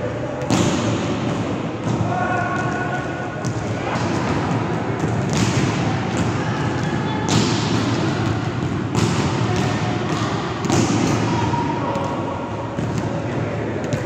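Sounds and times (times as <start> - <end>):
volleyball hits echoing in gym: 0.0 - 14.0.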